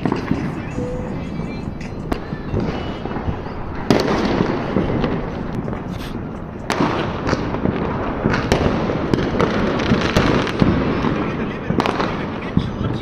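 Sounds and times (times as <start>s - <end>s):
dense firecracker crackling: 0.0s - 13.0s
firecracker bangs: 0.0s - 13.0s.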